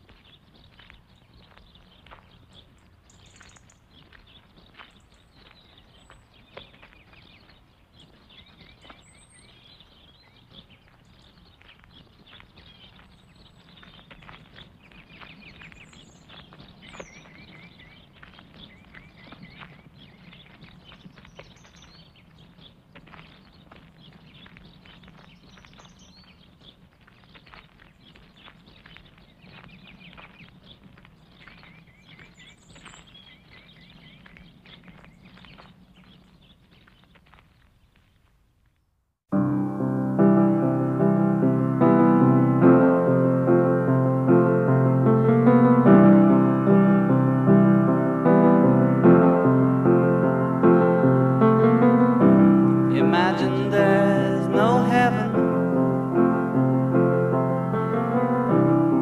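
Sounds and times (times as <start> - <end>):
birds chirping: 0.0 - 38.2, 40.1 - 59.0.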